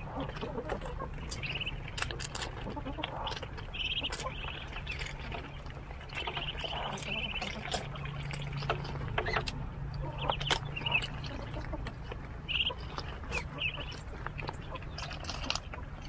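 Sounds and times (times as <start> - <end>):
ducklings peeping: 0.0 - 16.0
steady low hum: 0.0 - 16.0.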